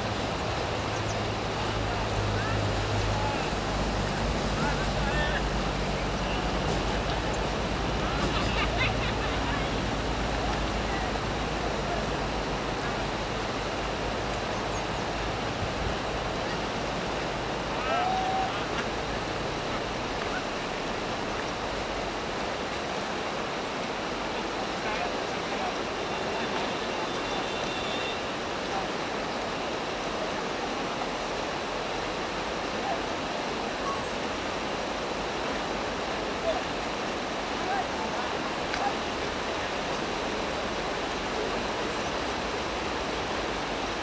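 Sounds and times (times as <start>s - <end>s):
river rushing over rocks: 0.0s - 44.0s.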